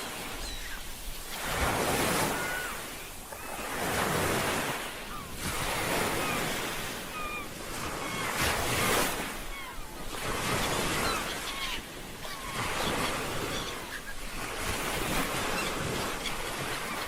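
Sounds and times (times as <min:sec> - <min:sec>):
ocean surf washing: 0:00.0 - 0:17.0.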